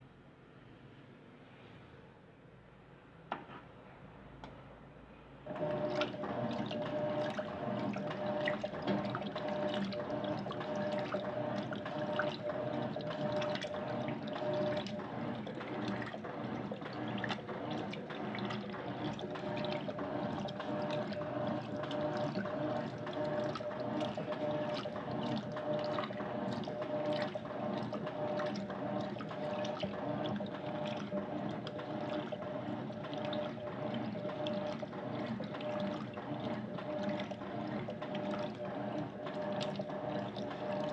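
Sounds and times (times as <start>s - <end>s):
washing machine hum: 5.4s - 40.9s
water splashing in washing machine: 5.5s - 40.9s.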